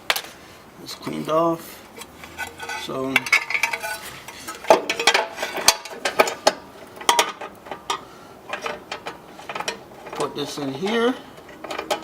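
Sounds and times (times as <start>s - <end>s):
metal hardware clinking: 2.0s - 12.0s.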